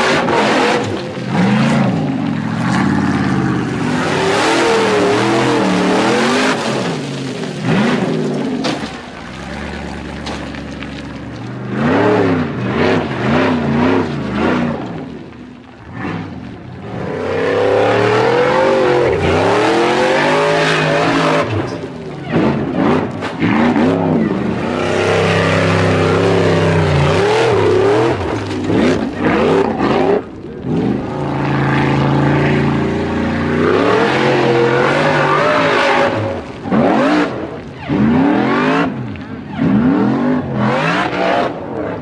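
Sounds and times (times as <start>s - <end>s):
buggy engine revving hard: 0.0s - 8.6s, 9.4s - 15.1s, 15.8s - 42.0s.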